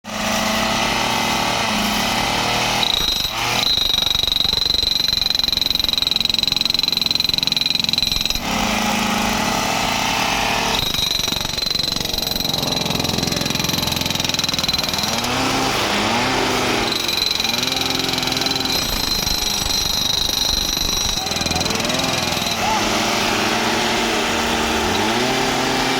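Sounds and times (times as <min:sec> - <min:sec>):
ballast tampers hammering: 0:00.1 - 0:25.9.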